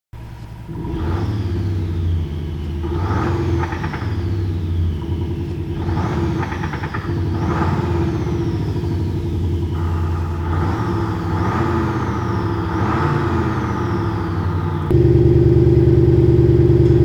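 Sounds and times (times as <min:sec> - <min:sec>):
engine rumbling and revving: 0:00.2 - 0:17.0.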